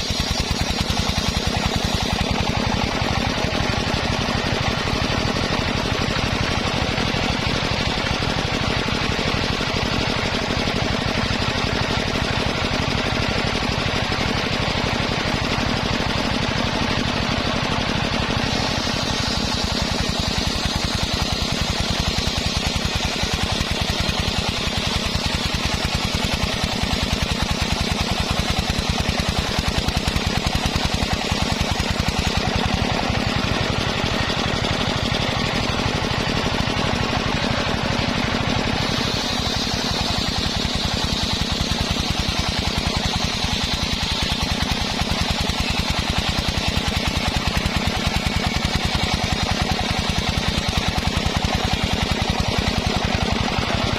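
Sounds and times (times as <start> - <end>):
engine chugging: 0.0 - 53.9
saw blade whining through wood: 0.0 - 53.9.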